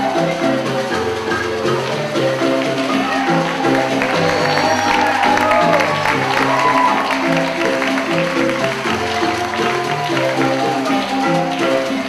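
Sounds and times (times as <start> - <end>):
light percussion: 0.0 - 12.0
melody of held notes: 0.0 - 12.0.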